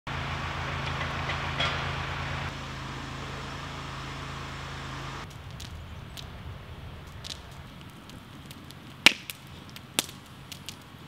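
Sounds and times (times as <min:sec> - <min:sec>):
vehicle engine running: 0:00.1 - 0:11.0.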